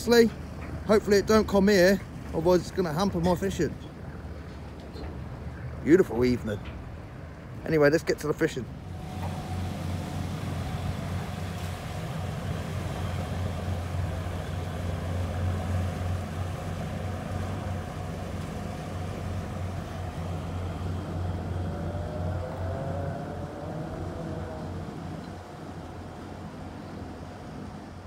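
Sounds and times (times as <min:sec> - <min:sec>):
boat engine low drone: 0:00.0 - 0:28.0.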